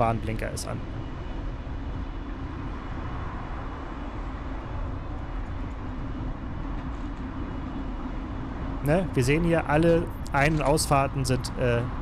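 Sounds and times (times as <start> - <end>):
wind rush: 0.0 - 12.0.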